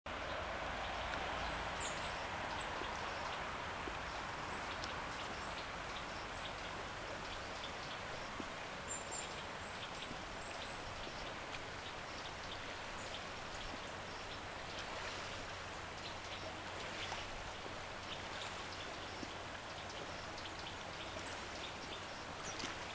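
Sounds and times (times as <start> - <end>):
river water flowing: 0.1 - 22.9.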